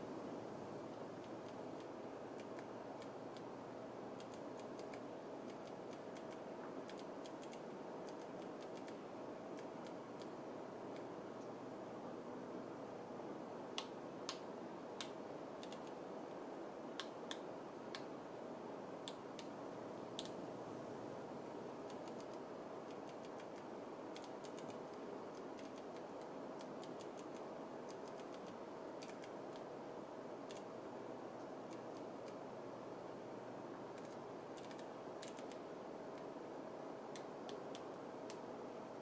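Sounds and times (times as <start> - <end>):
faint steady tone: 0.0 - 39.0
steady hiss: 0.0 - 39.0.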